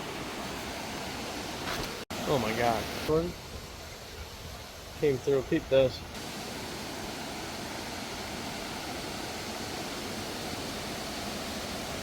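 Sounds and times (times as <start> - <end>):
waterfall and river rushing: 0.0 - 12.0.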